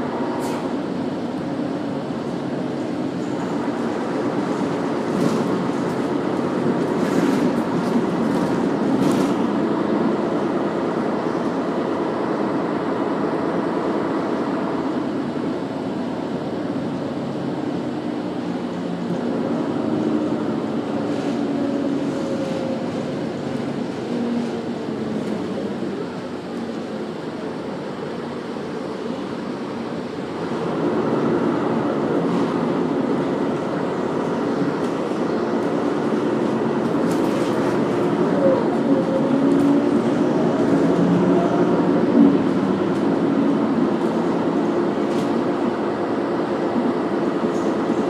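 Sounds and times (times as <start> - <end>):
bus engine and road noise: 0.0 - 48.0.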